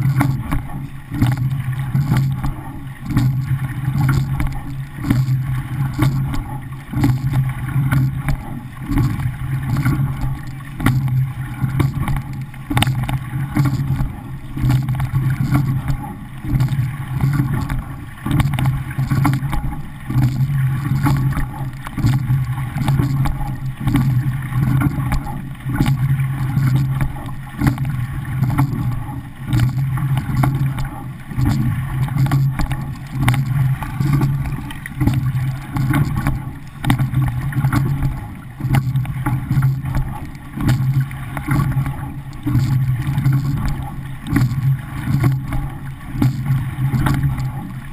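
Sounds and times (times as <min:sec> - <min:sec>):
water rushing along a boat hull: 0:00.0 - 0:47.9.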